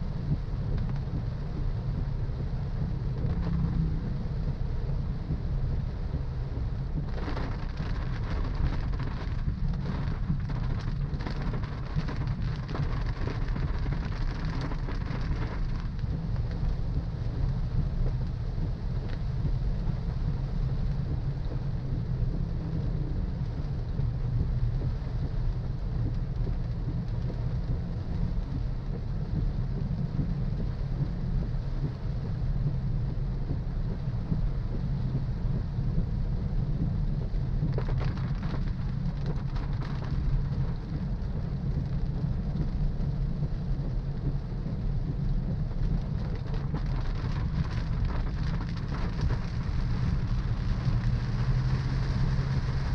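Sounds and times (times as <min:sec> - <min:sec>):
car engine and road rumble: 0:00.0 - 0:52.9
rain and wet-road spray hiss: 0:00.0 - 0:52.9.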